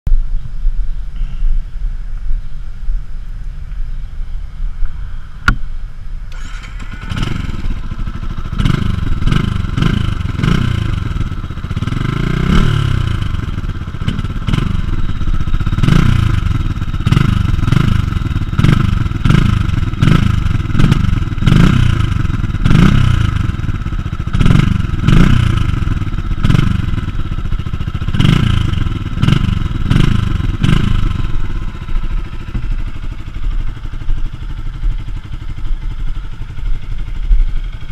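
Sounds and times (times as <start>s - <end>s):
motorcycle engine revving: 6.3s - 37.9s.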